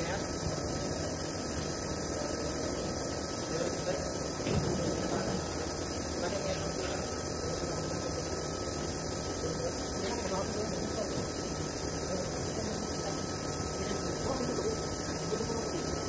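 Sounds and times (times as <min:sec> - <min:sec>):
thin constant tone: 0:00.0 - 0:16.0
workshop hum and hiss: 0:00.0 - 0:16.0.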